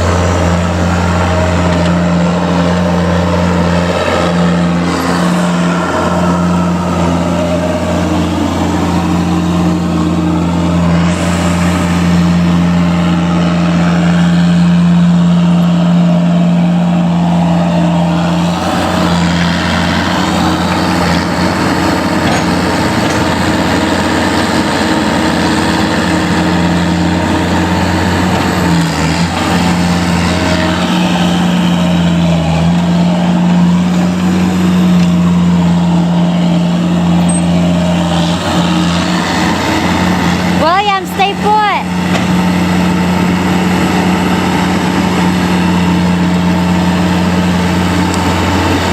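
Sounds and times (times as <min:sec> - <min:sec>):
vehicle engine running steadily: 0:00.0 - 0:48.9.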